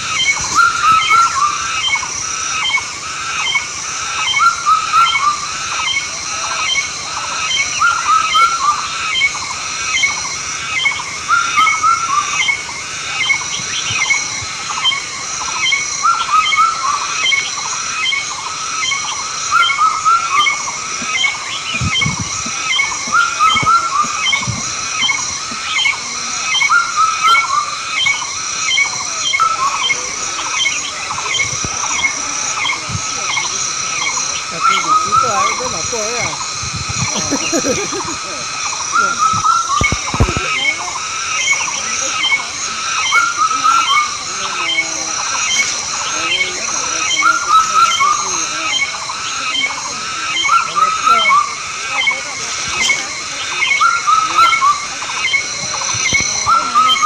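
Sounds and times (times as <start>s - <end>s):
animals chirping: 0.0s - 57.0s.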